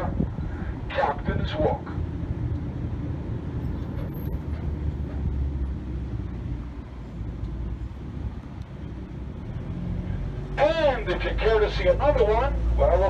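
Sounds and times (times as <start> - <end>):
vehicle engine and tyres rumble: 0.0 - 13.0.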